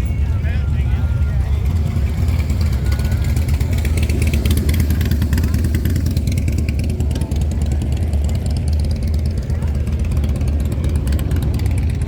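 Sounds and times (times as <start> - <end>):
loud engine with crackling rattle: 0.0 - 12.0.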